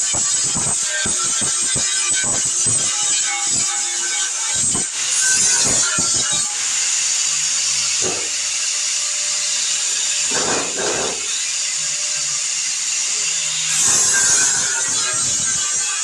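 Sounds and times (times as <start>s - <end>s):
angle grinder on sheet metal: 0.0s - 16.0s.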